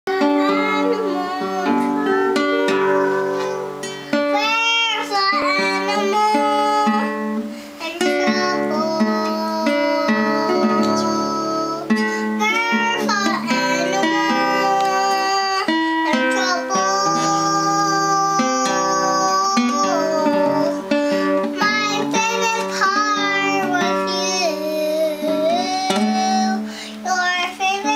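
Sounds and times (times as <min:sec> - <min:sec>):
acoustic guitar slow blues: 0:00.1 - 0:27.9
toddler singing: 0:00.1 - 0:27.9.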